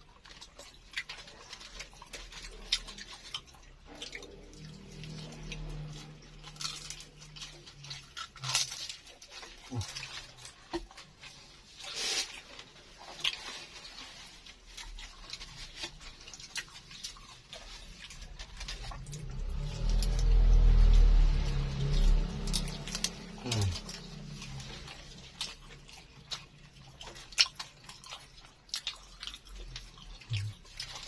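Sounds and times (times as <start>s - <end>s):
person chewing crunchy food: 0.0s - 31.0s.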